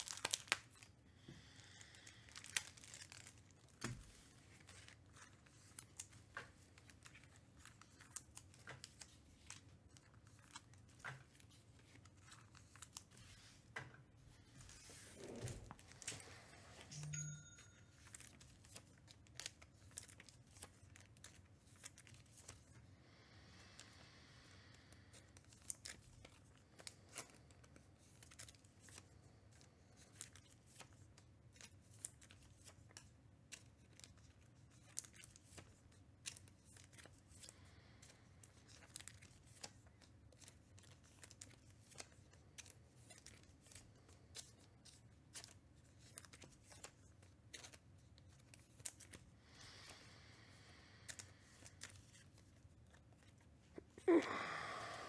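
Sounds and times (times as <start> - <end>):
plastic sleeves rustling: 0.0 - 22.8, 25.2 - 55.0.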